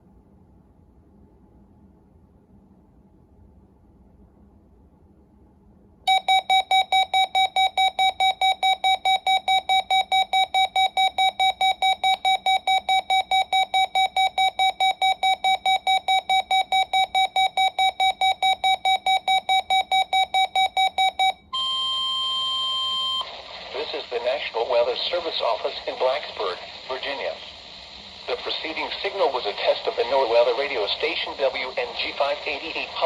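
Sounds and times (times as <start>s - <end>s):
weather radio alarm beeping: 6.1s - 33.0s.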